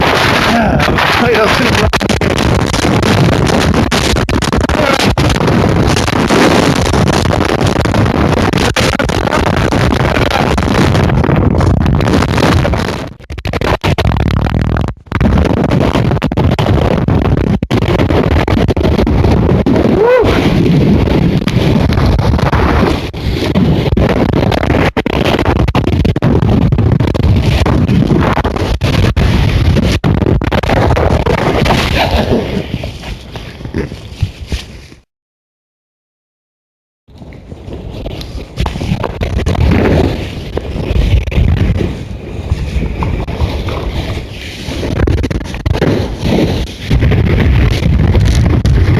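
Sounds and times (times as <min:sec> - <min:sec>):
crackling rattles: 0:00.0 - 0:35.0, 0:37.1 - 0:48.9
wind buffeting microphone: 0:00.0 - 0:35.0, 0:37.1 - 0:48.9.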